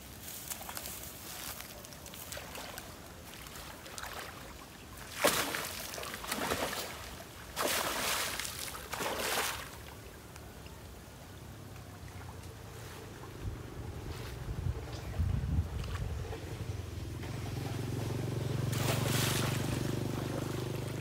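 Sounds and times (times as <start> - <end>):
water splashing and sloshing: 0.1 - 21.0.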